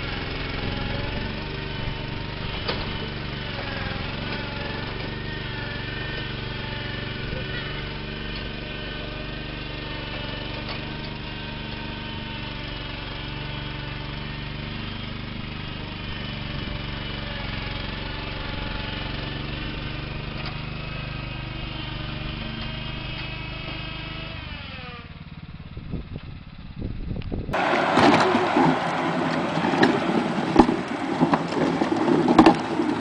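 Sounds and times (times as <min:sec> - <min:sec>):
engine running and slowing: 0:00.0 - 0:33.0.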